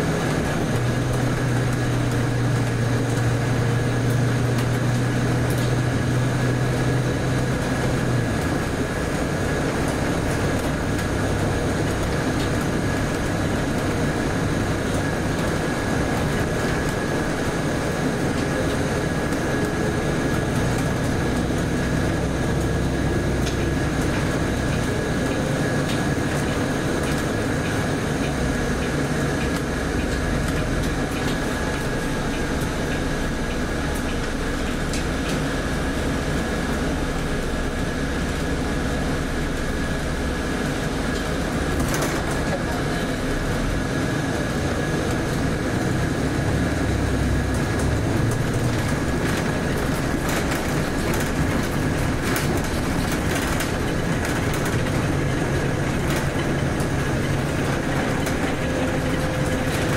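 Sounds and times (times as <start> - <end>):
bus diesel engine hum: 0.0 - 59.9
road noise: 0.0 - 59.9.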